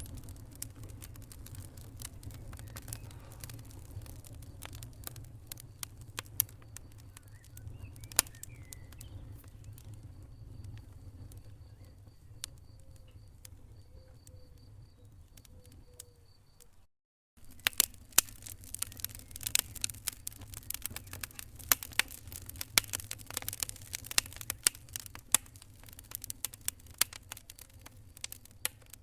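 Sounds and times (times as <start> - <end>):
wood fire crackling and popping: 0.0 - 16.1, 17.4 - 29.0.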